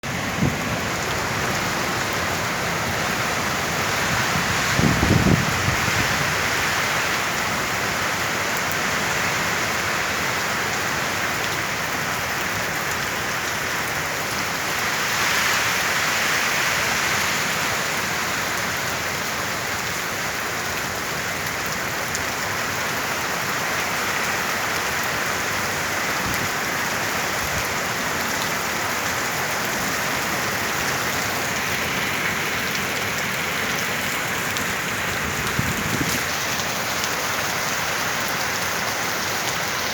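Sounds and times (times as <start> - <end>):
rain falling on surfaces: 0.0 - 39.9.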